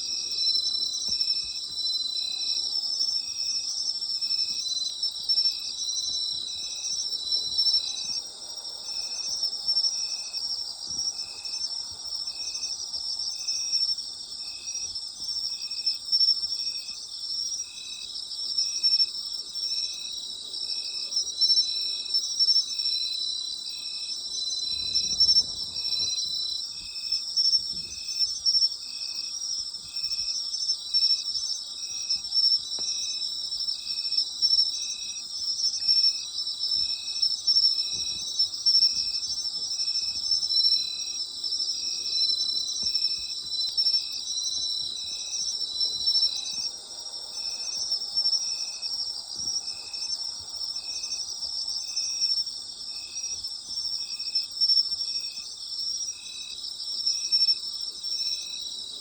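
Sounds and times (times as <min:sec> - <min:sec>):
crickets trilling: 0:00.0 - 0:59.0
insect chirping rhythmically: 0:00.0 - 0:59.0.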